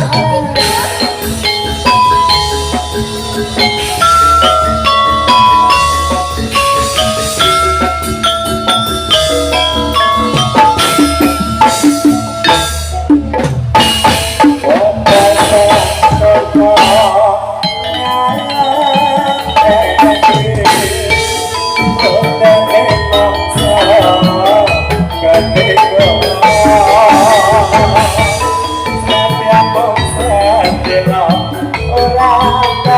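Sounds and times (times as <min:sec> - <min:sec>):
gamelan music over loudspeakers: 0:00.0 - 0:32.9.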